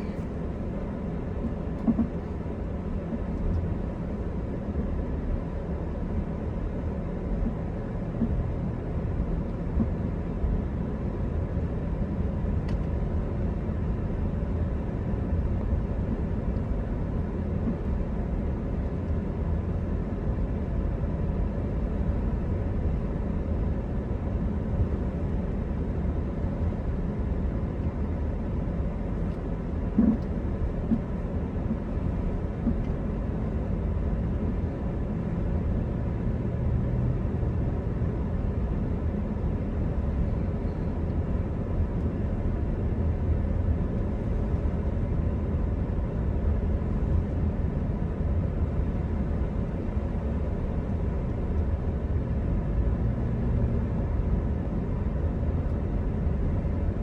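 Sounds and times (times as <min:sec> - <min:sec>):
faint steady hum: 0:00.0 - 0:57.0
vehicle rumbling: 0:00.0 - 0:57.0.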